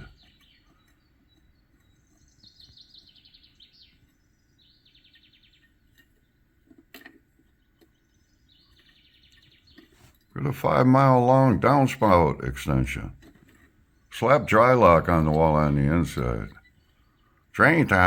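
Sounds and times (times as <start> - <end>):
faint bird song trills: 0.0 - 18.0.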